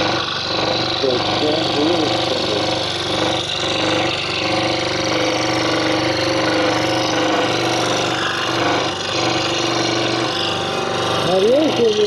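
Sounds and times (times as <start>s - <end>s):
scroll saw cutting wood: 0.0s - 12.0s.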